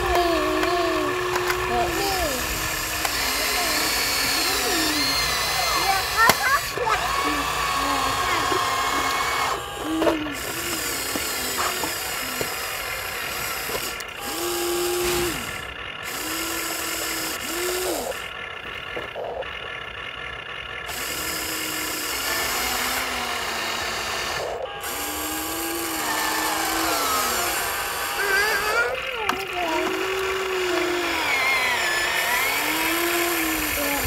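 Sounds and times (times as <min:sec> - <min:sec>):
toy vehicle electric motors whirring: 0:00.0 - 0:34.0.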